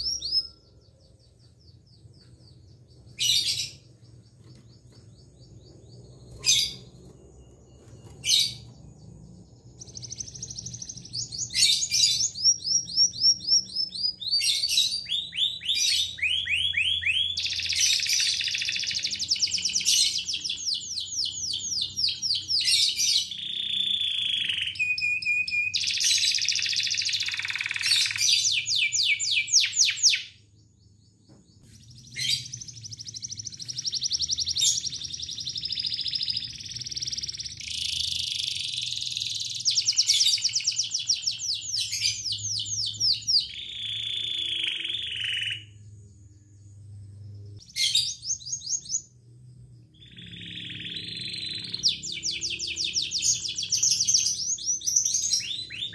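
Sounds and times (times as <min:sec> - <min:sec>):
canary singing trills: 0:00.0 - 0:31.0, 0:31.6 - 0:49.2, 0:49.9 - 0:55.9.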